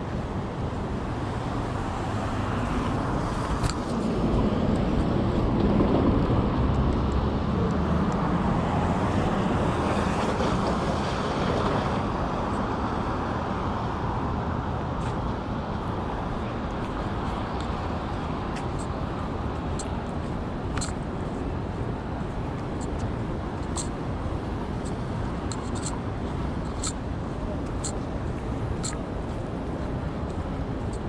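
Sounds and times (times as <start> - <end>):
urban background: 0.0 - 31.0.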